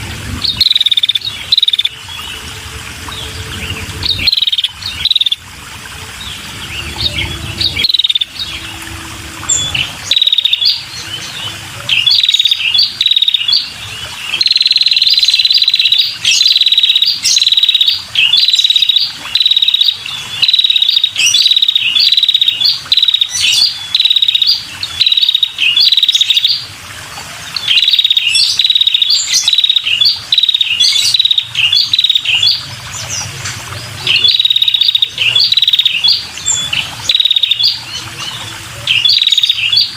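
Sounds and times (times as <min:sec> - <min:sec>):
bird calling buzzy trills: 0:00.0 - 0:39.9.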